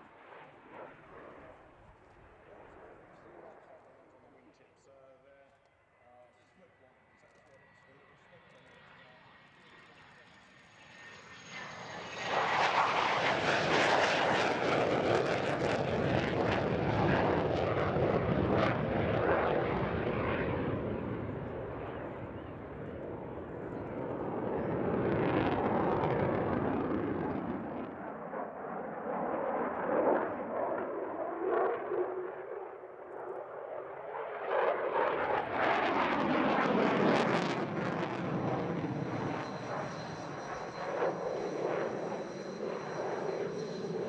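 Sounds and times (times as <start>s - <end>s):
jet engine roar: 7.8s - 44.0s.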